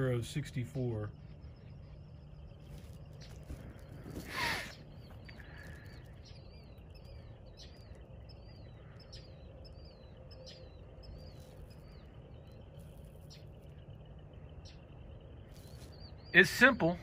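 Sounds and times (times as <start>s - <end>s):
faint low rumble: 0.0s - 17.0s
small bird chirping: 0.0s - 17.0s.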